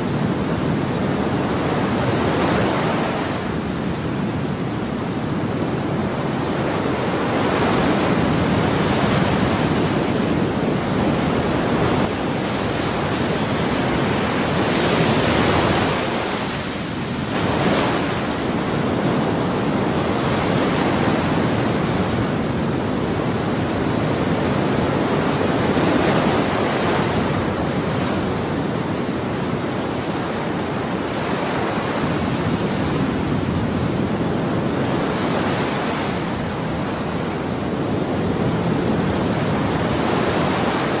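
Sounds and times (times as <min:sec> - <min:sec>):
ocean waves breaking on shore: 0:00.0 - 0:41.0.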